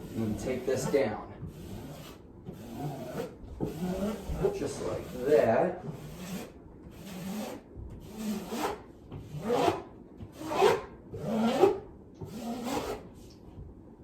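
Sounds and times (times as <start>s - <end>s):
taping knife scraping: 0.0s - 13.1s.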